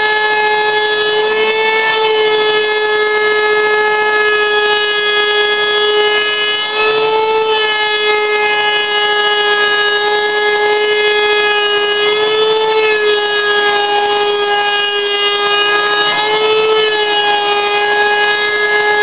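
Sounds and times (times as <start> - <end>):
wood router whine: 0.0 - 19.0.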